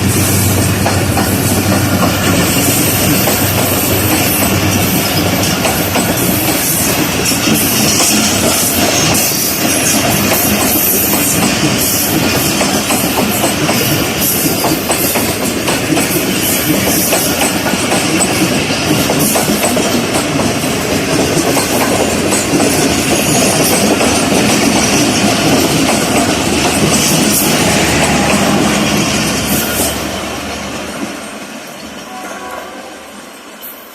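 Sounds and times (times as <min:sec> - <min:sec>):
train wheels clattering over rails: 0:00.0 - 0:32.1.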